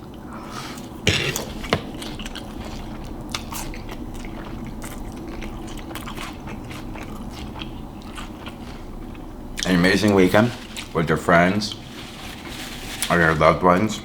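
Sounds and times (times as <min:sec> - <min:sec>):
person chewing crunchy food: 0:00.0 - 0:13.2.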